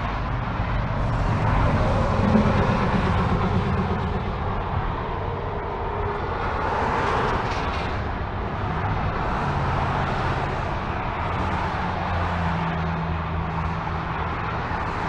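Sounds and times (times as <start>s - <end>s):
freeway traffic rushing: 0.0s - 15.0s
low steady drone: 0.0s - 15.0s.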